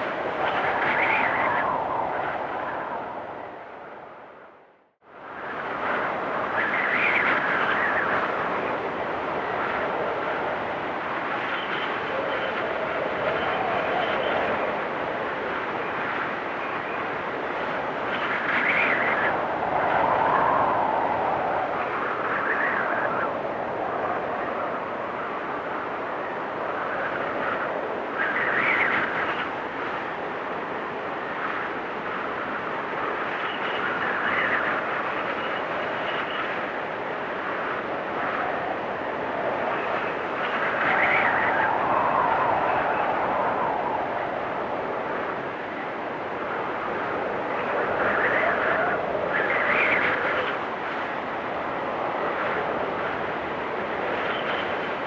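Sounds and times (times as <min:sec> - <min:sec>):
blizzard wind howling in gusts: 0:00.0 - 0:55.0.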